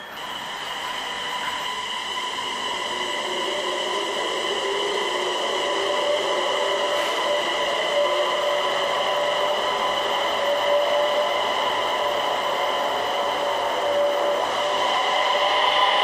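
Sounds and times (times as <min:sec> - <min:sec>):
electric train whine: 0:00.0 - 0:16.0
train running noise: 0:00.0 - 0:16.0.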